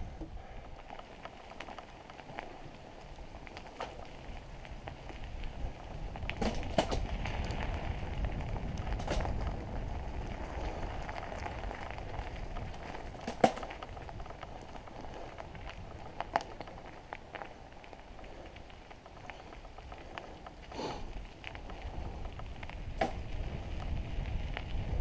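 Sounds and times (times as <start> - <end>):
bike tyres rolling over dirt trail: 0.0 - 25.0
bike clicking and knocking over bumps: 0.2 - 25.0.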